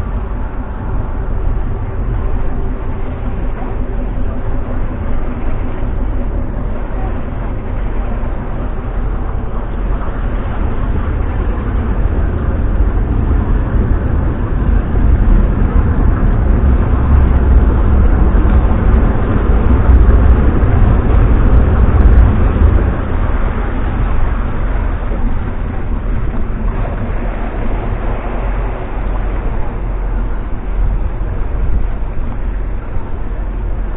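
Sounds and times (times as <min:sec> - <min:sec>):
boat diesel engines rumbling: 0:00.0 - 0:33.9.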